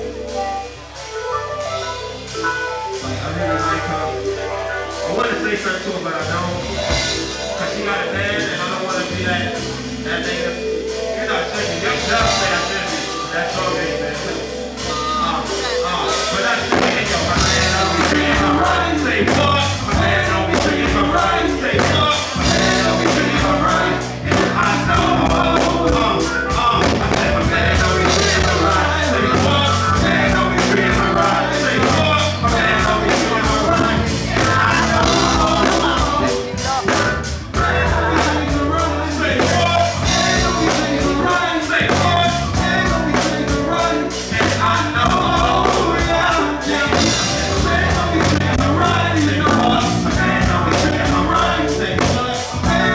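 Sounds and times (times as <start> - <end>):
live band playing hip-hop song: 0.0 - 52.9
man singing into microphone: 3.0 - 52.9.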